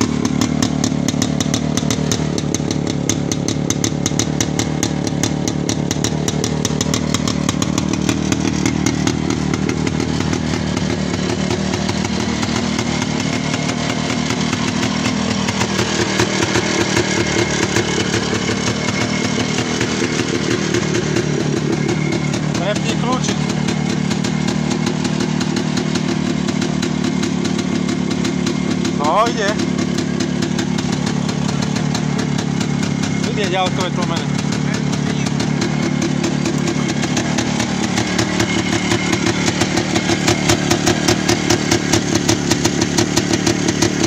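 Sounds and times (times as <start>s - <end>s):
two-stroke scooter engine running: 0.0s - 44.0s.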